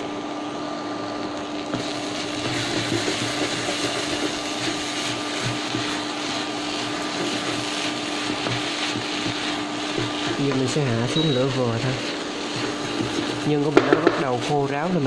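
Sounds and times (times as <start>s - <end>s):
cooktop humming: 0.0s - 15.0s
food sizzling in a pan: 0.2s - 15.0s
wooden spatula scraping a pan: 2.2s - 14.6s.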